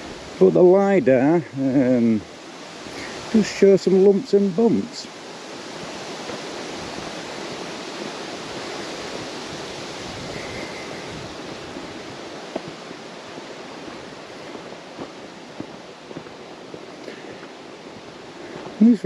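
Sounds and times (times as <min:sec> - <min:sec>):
wind through trees: 0:00.0 - 0:19.0.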